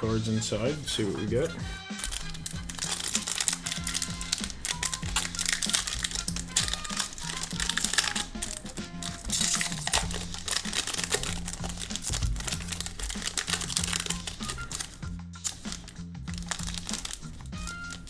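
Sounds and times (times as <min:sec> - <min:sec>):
card pack wrapper crinkling and tearing: 0:00.4 - 0:18.0.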